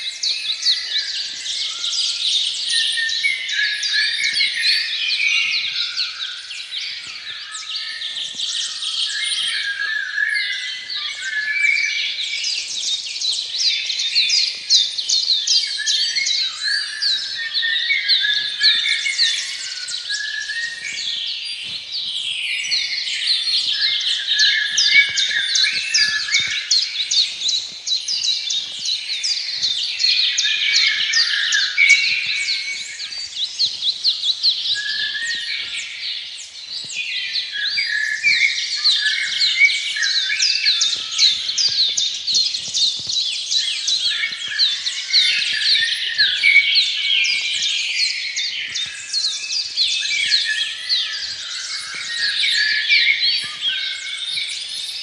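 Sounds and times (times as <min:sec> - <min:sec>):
birds chirping and warbling: 0:00.0 - 0:55.0.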